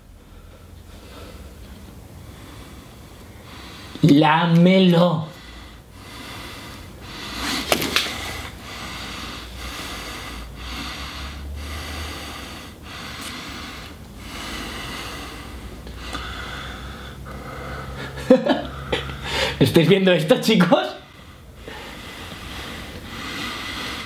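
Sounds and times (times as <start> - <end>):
man breathing heavily: 0.0 - 4.0, 5.3 - 19.6, 21.0 - 24.0.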